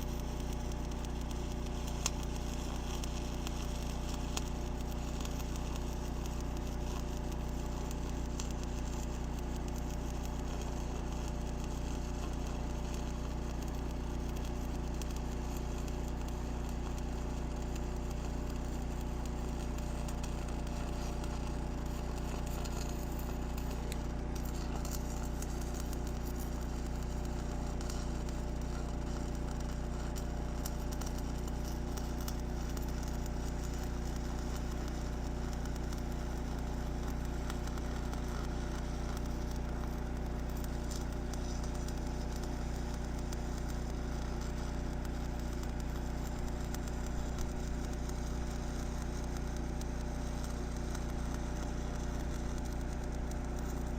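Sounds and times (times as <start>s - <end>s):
welding arc crackling: 0.0s - 53.9s
welding machine humming: 0.0s - 53.9s.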